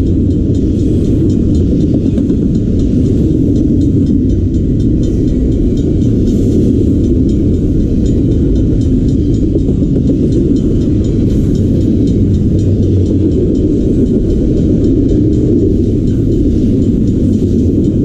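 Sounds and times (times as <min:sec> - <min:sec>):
freight train wheels on rail: 0:00.0 - 0:18.0.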